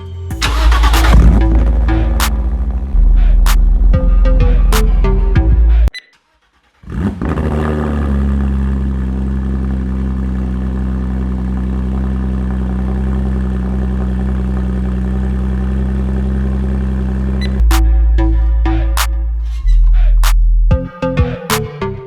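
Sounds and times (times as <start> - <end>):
car engine starting and idling: 0.3 - 20.8.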